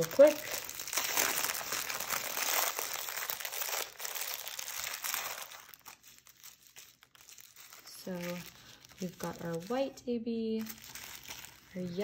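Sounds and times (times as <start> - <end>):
small plastic bags crinkling: 0.0 - 12.0.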